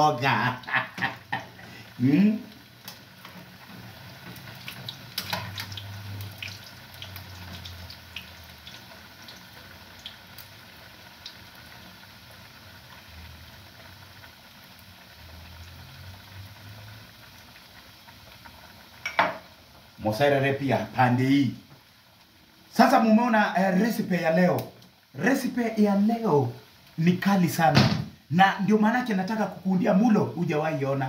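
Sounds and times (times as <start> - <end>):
sausages sizzling in a frying pan: 0.0 - 31.0.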